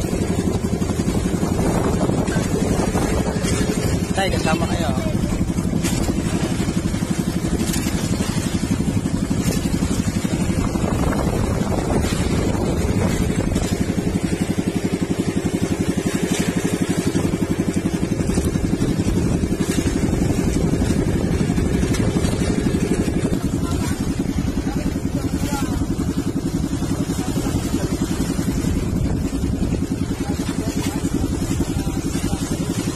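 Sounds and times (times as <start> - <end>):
boat engine puttering: 0.0 - 32.9.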